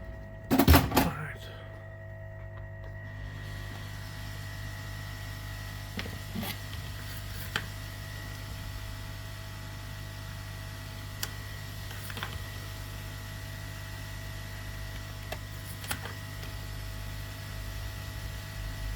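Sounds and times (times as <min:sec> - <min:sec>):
electrical hum and hiss: 0:00.0 - 0:18.9.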